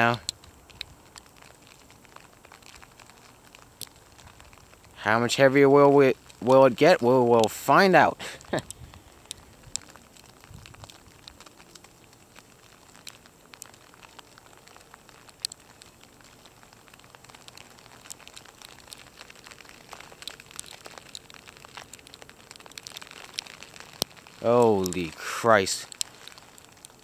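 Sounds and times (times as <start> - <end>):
graupel pellets pattering: 0.0 - 27.0.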